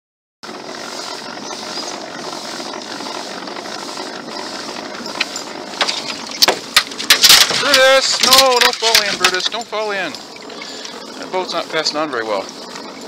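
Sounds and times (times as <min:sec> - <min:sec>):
pedal boat chain drive and water: 0:00.4 - 0:13.0.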